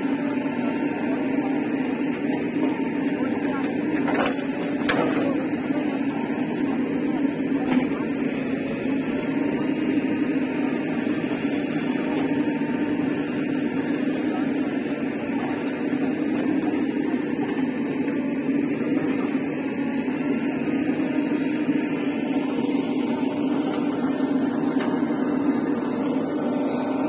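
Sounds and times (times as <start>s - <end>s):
backhoe loader working: 0.0s - 27.0s.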